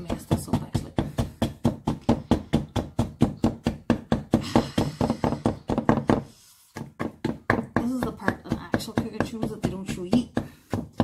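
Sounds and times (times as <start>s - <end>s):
wooden spoon knocking on bowl: 0.0s - 11.0s.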